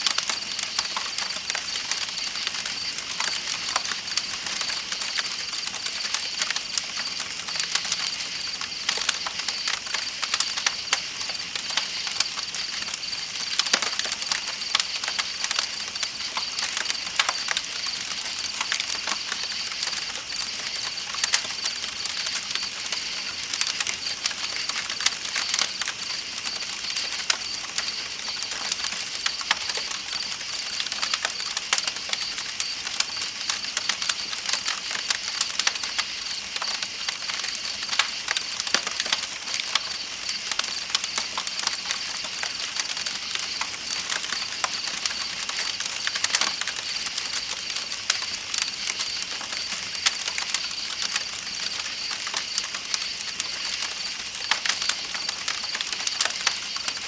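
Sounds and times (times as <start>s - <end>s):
campfire crackling and popping: 0.0s - 57.0s
night insects chirring: 0.0s - 57.0s.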